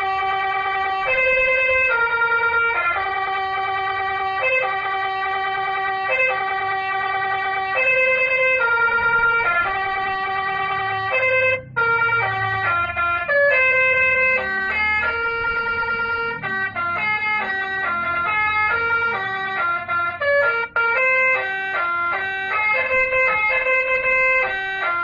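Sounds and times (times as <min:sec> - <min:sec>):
electronic horn playing a tune: 0:00.0 - 0:25.0.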